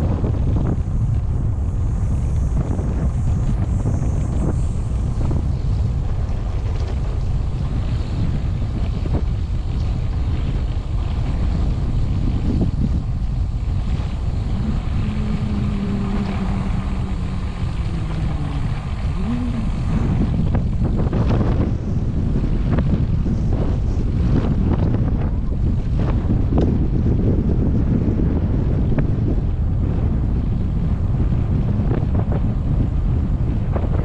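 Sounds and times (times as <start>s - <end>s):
steady low hum: 0.0s - 34.0s
wind buffeting microphone: 0.0s - 34.0s.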